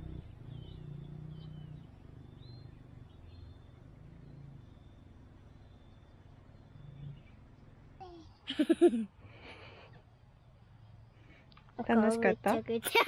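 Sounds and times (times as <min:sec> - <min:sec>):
faint birds chirping: 0:00.0 - 0:13.0
low outdoor rumble: 0:00.0 - 0:13.0.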